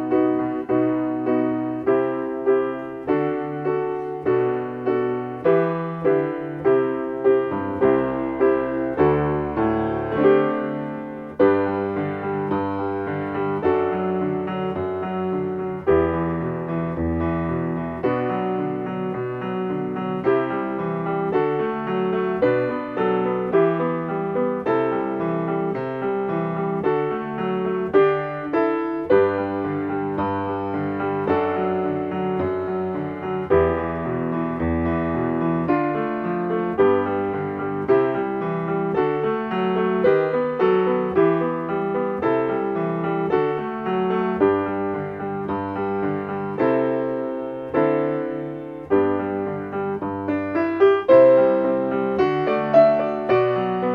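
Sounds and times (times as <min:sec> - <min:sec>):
solo piano chords: 0:00.0 - 0:53.9.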